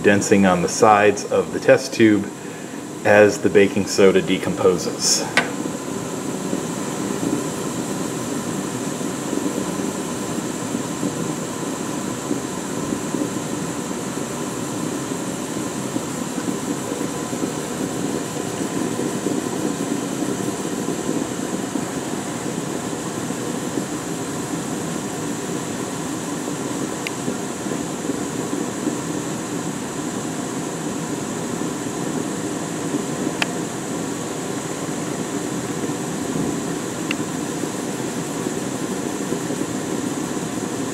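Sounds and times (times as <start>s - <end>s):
gas burner flame rushing: 0.0s - 40.9s.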